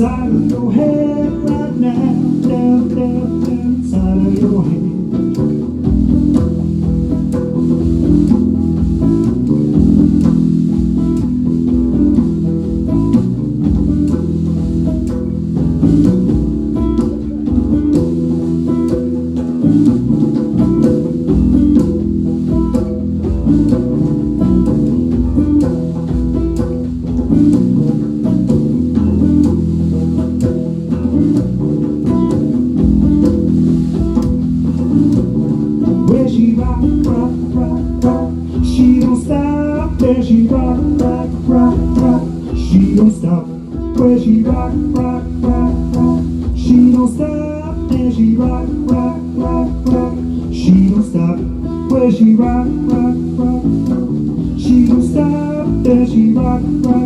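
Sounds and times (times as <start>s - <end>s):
bass guitar: 0.0s - 57.0s
drum kit: 0.0s - 57.0s
guitar: 0.0s - 57.0s.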